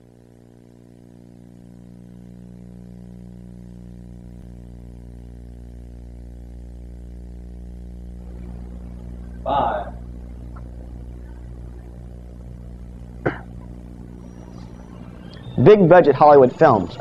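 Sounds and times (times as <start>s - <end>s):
electrical hum: 0.0s - 17.0s
faint scratchy noise: 0.0s - 17.0s.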